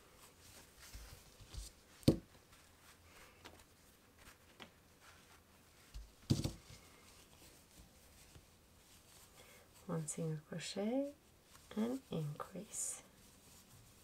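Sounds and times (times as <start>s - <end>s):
crocheting handling sounds: 0.0s - 10.4s, 11.0s - 14.0s.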